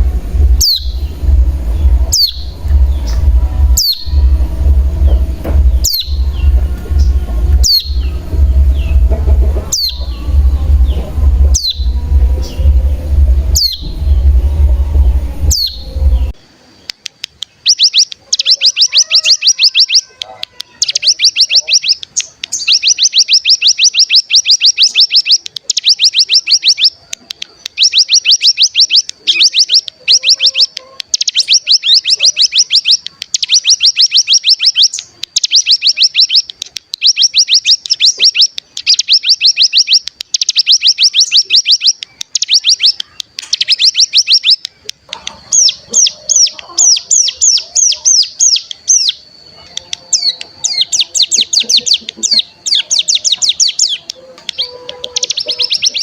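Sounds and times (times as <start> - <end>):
songbird rattling trills: 0.0 - 16.4, 20.8 - 56.0.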